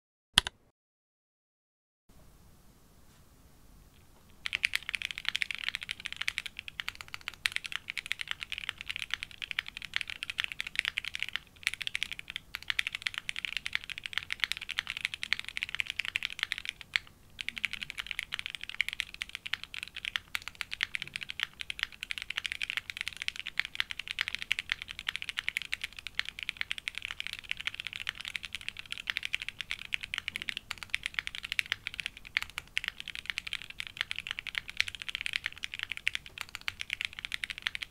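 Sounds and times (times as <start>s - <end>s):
fast mechanical keyboard typing: 4.4s - 37.9s.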